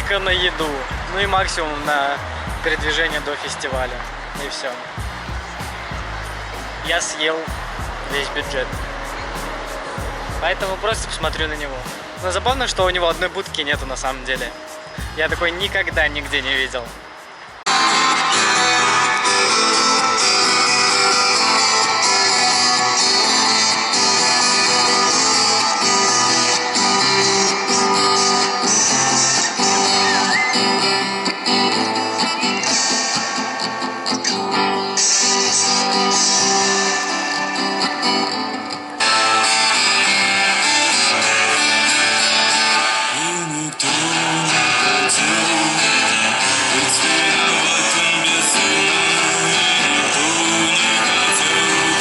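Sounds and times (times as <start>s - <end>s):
strummed guitar music: 0.0s - 52.0s.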